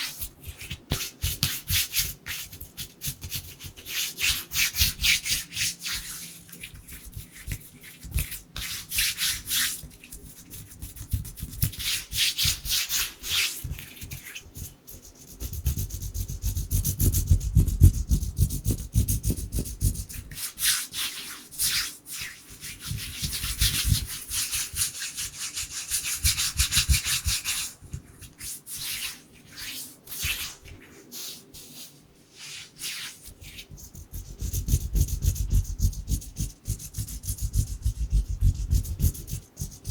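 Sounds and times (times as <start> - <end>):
dry hands rubbing together: 0.0 - 16.1, 17.6 - 39.9.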